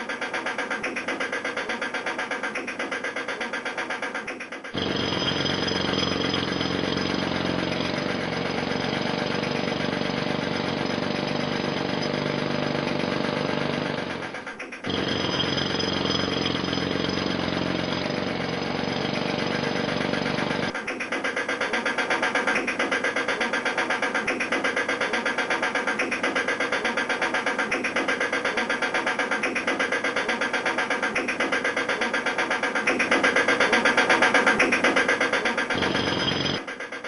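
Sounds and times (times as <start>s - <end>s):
jackhammer hammering: 0.0s - 37.0s.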